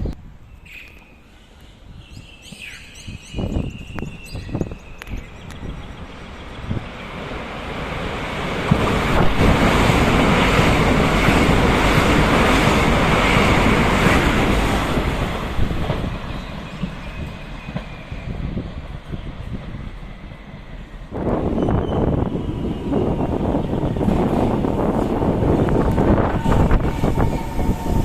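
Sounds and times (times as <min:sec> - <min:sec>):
train passing close by: 0:00.3 - 0:28.0.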